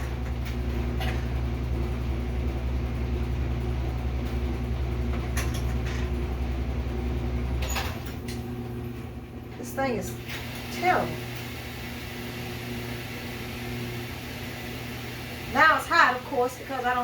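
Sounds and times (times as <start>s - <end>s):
low appliance hum: 0.0s - 17.0s.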